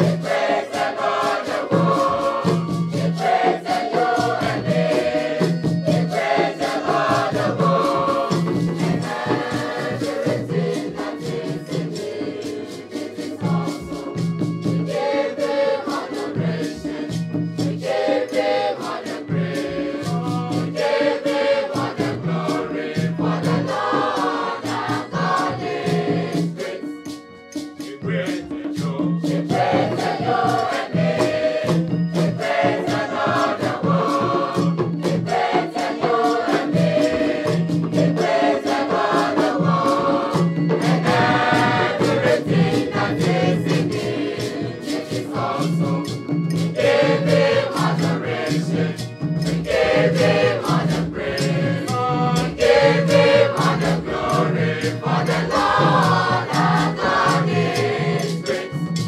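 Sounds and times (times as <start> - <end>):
choir singing gospel song: 0.0 - 59.0
hand drums: 0.0 - 59.0
shakers: 0.0 - 59.0.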